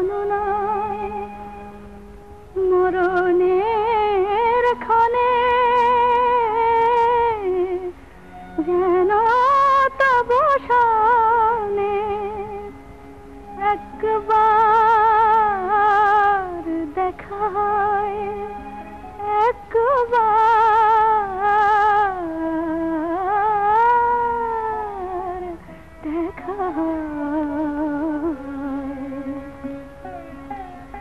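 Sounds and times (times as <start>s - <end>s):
woman singing: 0.0s - 1.5s, 2.6s - 12.8s, 13.5s - 31.0s.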